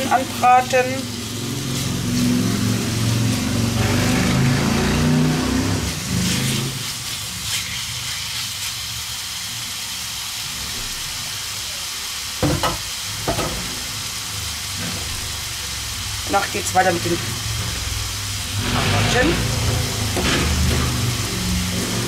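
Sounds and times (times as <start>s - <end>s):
chicken sizzling in a pan: 0.0s - 22.0s.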